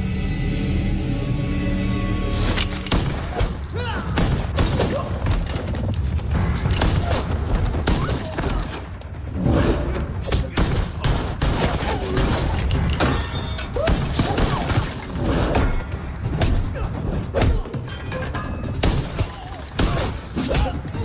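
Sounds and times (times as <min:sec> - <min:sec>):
background score music: 0:00.0 - 0:21.0.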